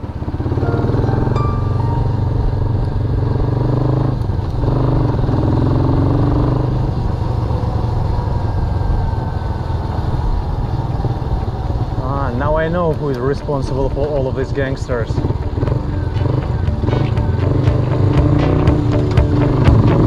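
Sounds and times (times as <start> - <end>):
motorbike engine running: 0.0 - 20.0
road noise: 0.0 - 20.0.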